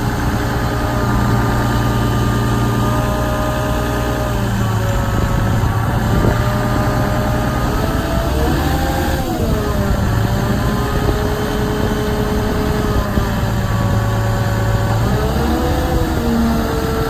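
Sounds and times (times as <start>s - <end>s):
engine whining: 0.0s - 17.0s.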